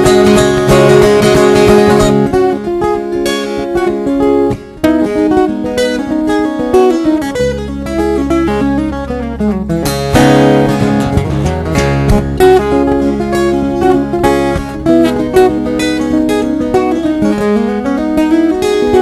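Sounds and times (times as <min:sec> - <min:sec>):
acoustic guitars playing: 0:00.0 - 0:19.0
bright guitar strum: 0:00.0 - 0:19.0.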